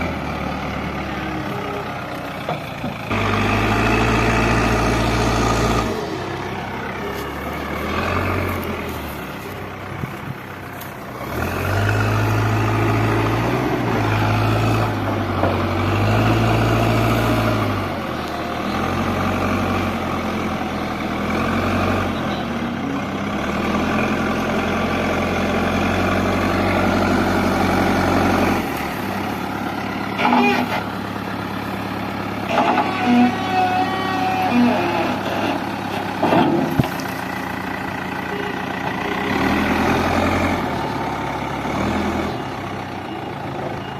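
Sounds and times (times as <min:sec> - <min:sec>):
diesel engine labouring: 0:00.0 - 0:43.9.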